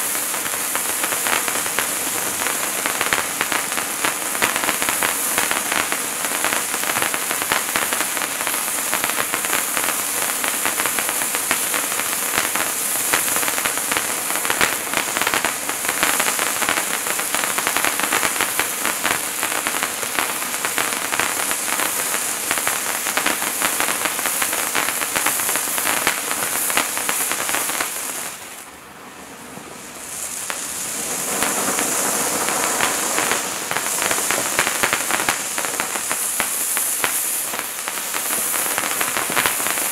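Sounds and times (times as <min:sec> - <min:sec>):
sparkler firework crackling: 0:00.0 - 0:28.7, 0:29.8 - 0:39.9.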